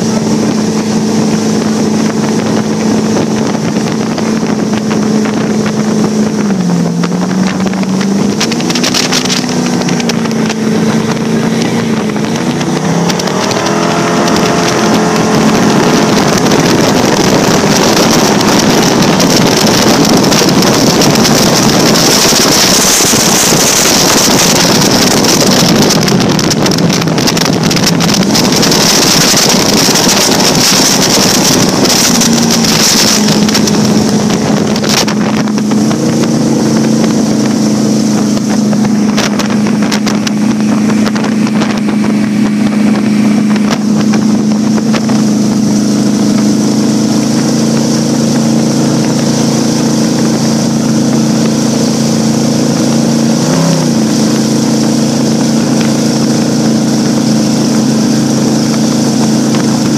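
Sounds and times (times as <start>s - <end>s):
speedboat engine drone: 0.0s - 59.9s
water and spray rushing: 0.0s - 59.9s
wind on microphone: 0.0s - 59.9s.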